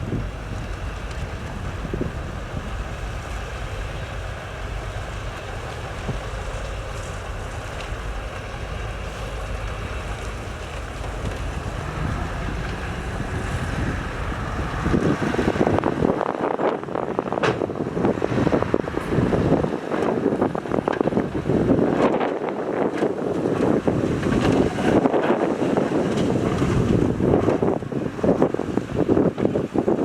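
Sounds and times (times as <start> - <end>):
diesel machinery rumbling: 0.0 - 30.0
wind on microphone: 0.0 - 30.0.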